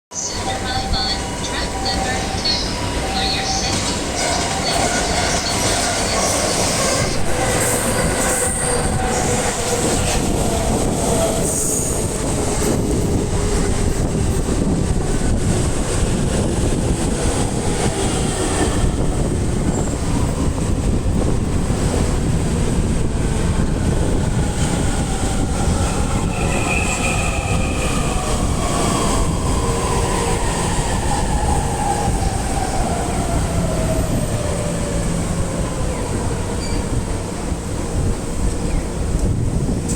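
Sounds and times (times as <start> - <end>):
train wheels on rails: 0.2 - 39.9.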